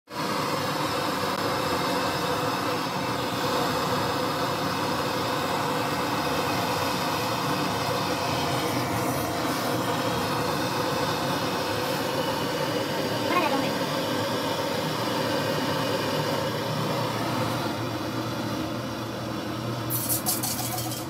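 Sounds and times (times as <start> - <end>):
gas torch flame rushing: 0.2 - 18.8, 19.4 - 21.0.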